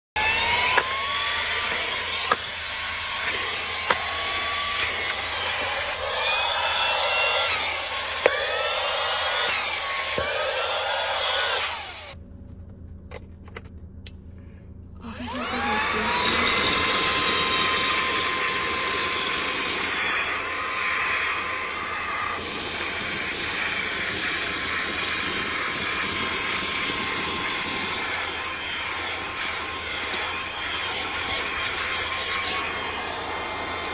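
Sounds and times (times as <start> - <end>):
handheld vacuum cleaner whine: 0.2 - 12.2, 15.0 - 33.9.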